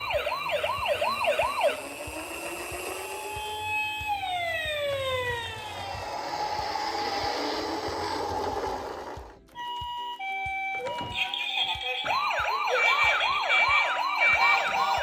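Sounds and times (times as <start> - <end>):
toy electronic siren: 0.0 - 8.8, 9.6 - 15.0.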